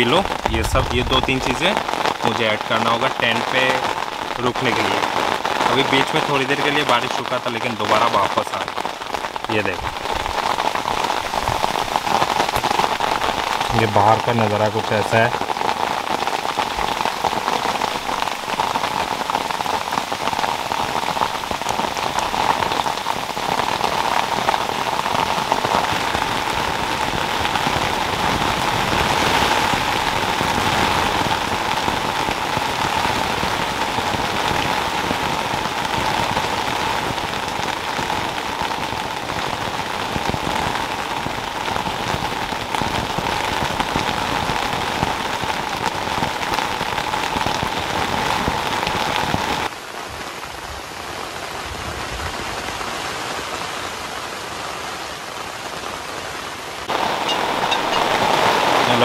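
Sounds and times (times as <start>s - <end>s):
rain on tent fabric: 0.0s - 59.0s.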